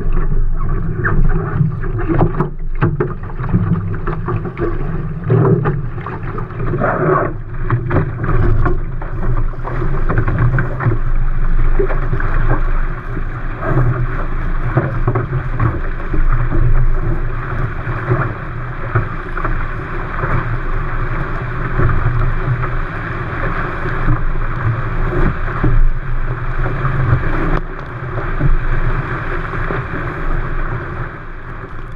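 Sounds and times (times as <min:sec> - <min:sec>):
water rushing along a hull: 0:00.0 - 0:31.9.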